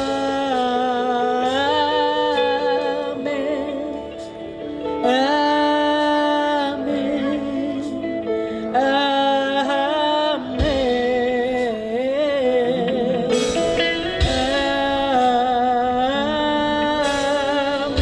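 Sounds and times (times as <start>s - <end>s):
voices holding long notes: 0.0s - 18.0s
worship band playing slow song: 0.0s - 18.0s.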